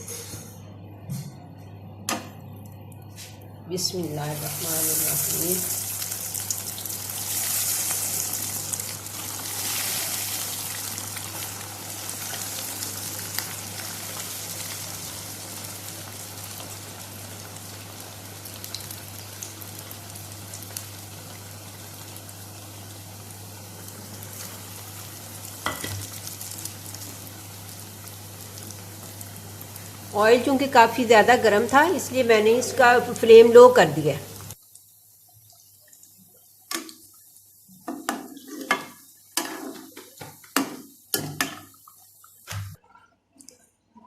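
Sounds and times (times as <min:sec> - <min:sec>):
food deep-frying in oil: 0:03.9 - 0:43.0.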